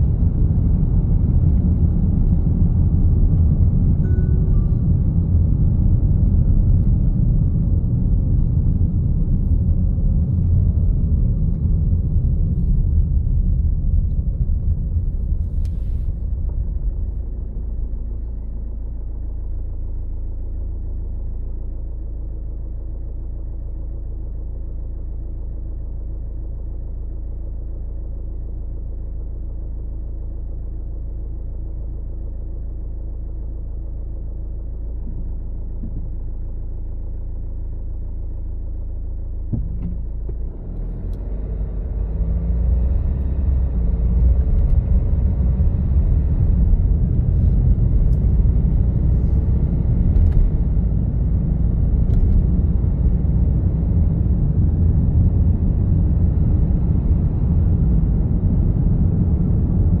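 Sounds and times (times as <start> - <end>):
vehicle engine and road rumble: 0.0 - 60.0.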